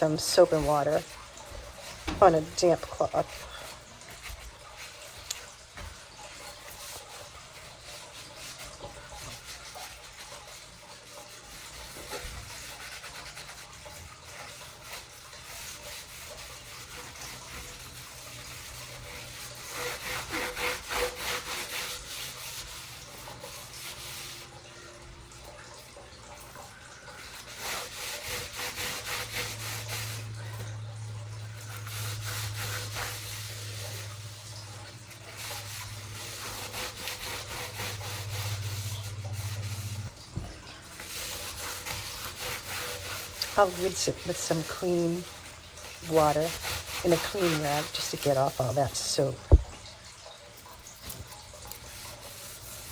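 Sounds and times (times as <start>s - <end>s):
cloth scrubbing metal: 0.0s - 24.7s, 27.2s - 49.8s, 50.9s - 52.9s.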